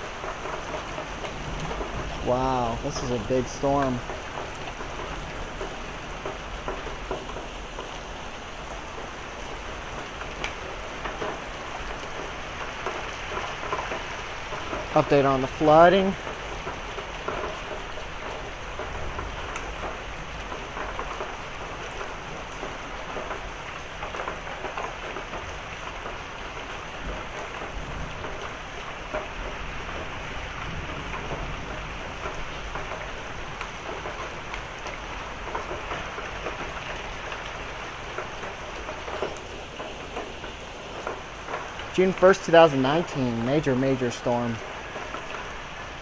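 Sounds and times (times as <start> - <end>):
heavy rain falling: 0.0 - 46.0
raindrops hitting surfaces: 0.0 - 46.0.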